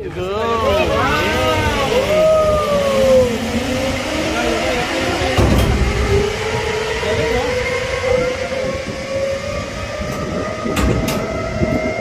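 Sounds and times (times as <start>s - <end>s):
zipline trolley whine on cable: 0.0s - 12.0s.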